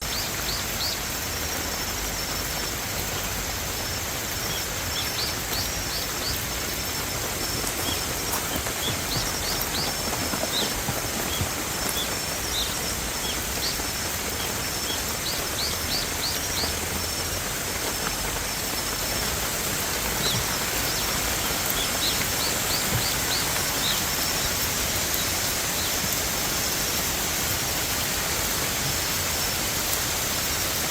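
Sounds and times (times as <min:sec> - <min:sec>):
bird chirping: 0:00.0 - 0:27.0
flowing water rushing: 0:00.0 - 0:30.9.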